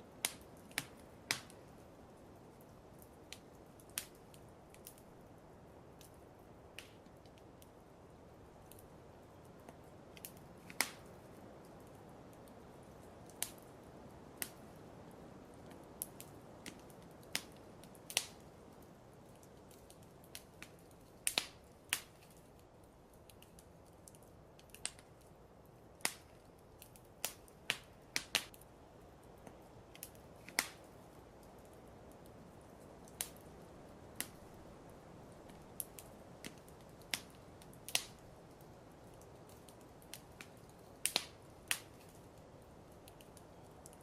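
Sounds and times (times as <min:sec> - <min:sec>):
fire crackling: 0:00.0 - 0:44.0.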